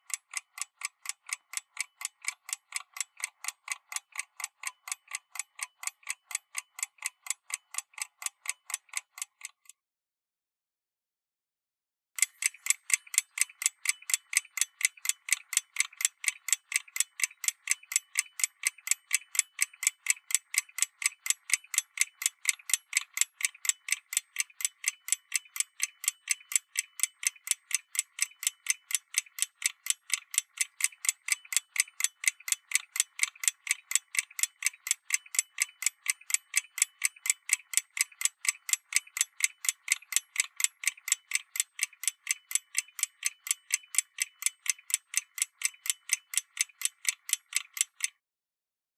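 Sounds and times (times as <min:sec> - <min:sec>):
clock ticking: 0:00.0 - 0:09.7, 0:12.2 - 0:48.2.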